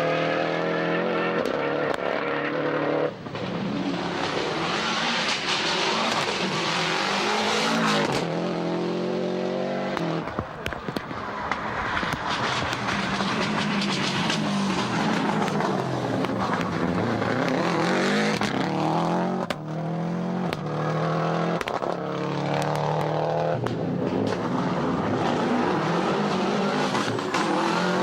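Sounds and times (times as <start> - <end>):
rally car engine revving hard: 0.0 - 10.3, 12.3 - 28.0.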